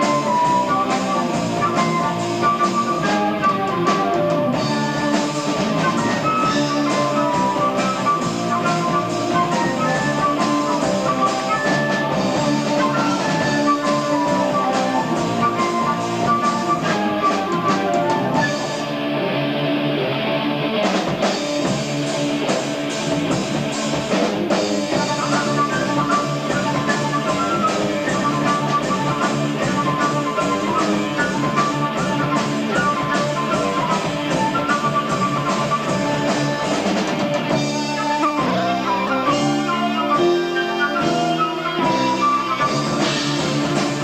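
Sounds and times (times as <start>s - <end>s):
drum kit beat: 0.0s - 44.0s
electric guitar: 0.0s - 44.0s
live rock band playing: 0.0s - 44.0s.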